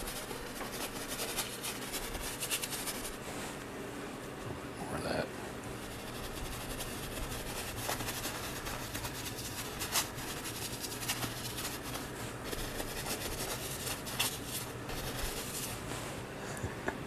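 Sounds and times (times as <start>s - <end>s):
paintbrush scrubbing on canvas: 0.0s - 3.6s, 5.7s - 16.2s.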